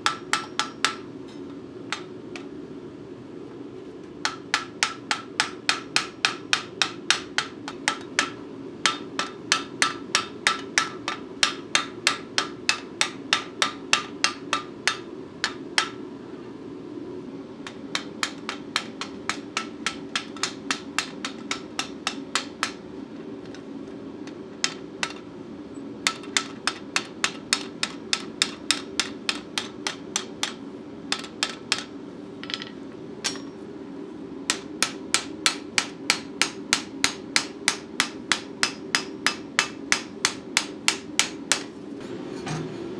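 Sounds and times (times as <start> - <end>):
hammer striking steel on anvil: 0.0 - 2.5, 4.3 - 16.0, 17.6 - 22.8, 24.6 - 25.3, 26.1 - 33.6, 34.5 - 41.7
steady low hum: 0.0 - 42.9.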